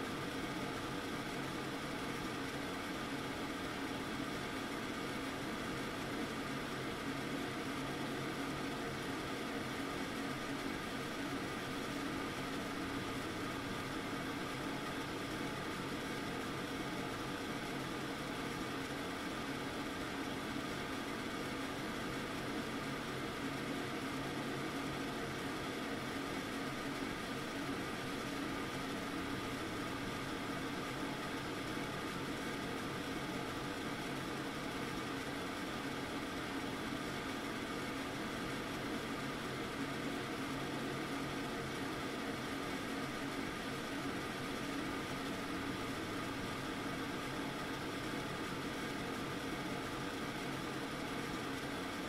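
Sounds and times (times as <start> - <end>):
range hood exhaust fan running: 0.0 - 52.0.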